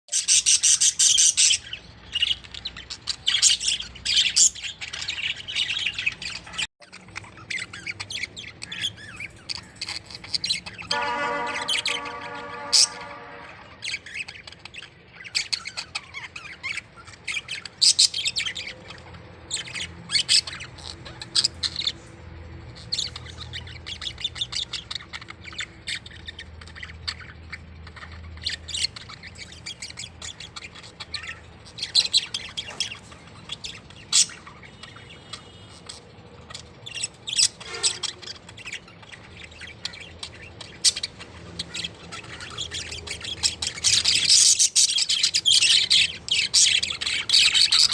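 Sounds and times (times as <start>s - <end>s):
parrots squawking and chirping: 0.1s - 47.9s.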